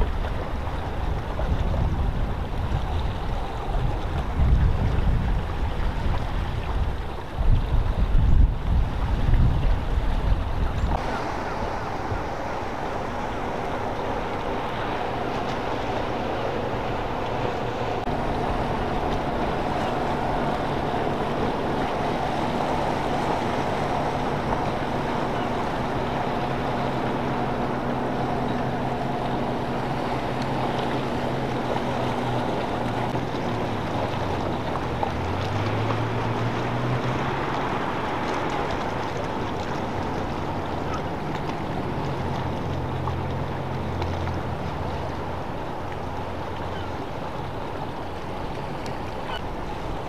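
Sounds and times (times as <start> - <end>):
outboard motor drone: 0.0 - 50.0
wind and water rushing: 0.0 - 50.0.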